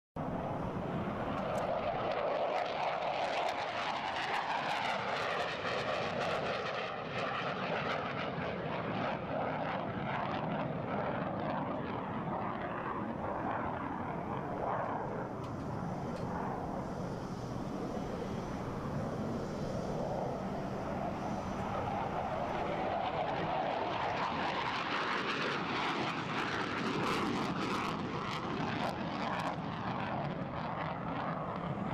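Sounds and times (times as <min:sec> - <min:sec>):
jet engines running: 0:00.2 - 0:31.9.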